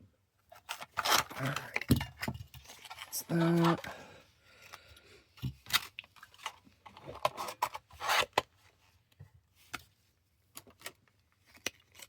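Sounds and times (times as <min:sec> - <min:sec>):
plastic and cardboard packaging rustling: 0:00.4 - 0:12.0.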